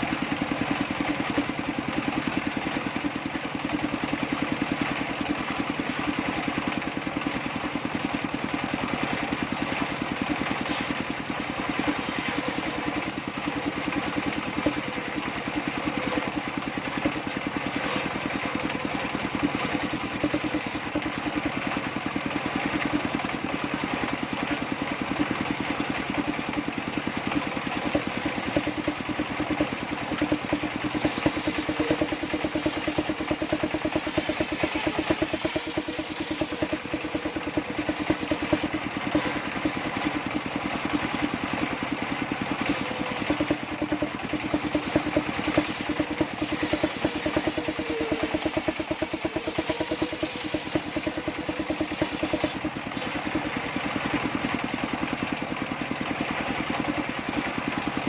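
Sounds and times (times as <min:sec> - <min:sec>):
table saw running: 0:00.0 - 0:58.0.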